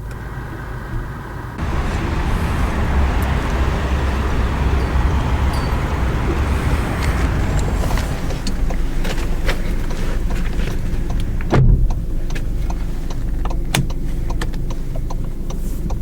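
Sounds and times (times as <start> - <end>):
car engine starting: 0.0 - 16.0
engine rumbling steadily: 0.0 - 16.0.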